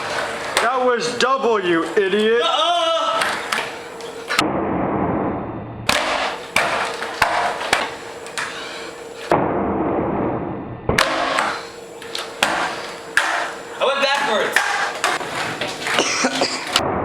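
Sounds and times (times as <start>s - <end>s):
skateboard clacking down: 0.0s - 4.4s, 5.9s - 9.3s, 11.0s - 16.8s
skateboard wheels rolling on pavement: 0.0s - 4.4s, 5.9s - 9.3s, 11.0s - 16.9s.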